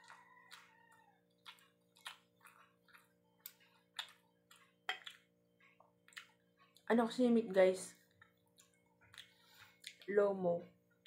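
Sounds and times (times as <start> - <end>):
chewing: 0.0 - 10.1.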